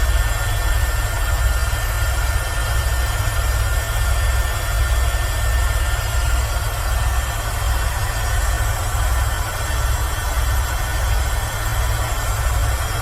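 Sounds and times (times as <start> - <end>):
helicopter rotor and engine rumble: 0.0 - 13.0.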